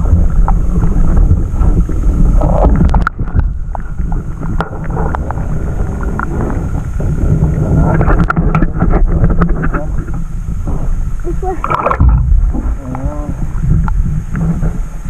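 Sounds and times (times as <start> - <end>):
moving water: 0.0 - 15.0
wind buffeting microphone: 0.0 - 15.0.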